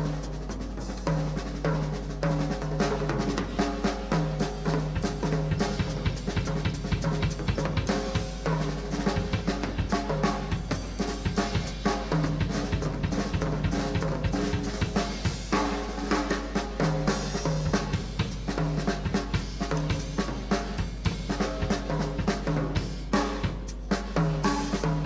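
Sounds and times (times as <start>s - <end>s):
drum kit: 0.0s - 25.0s
live band playing: 0.0s - 25.0s.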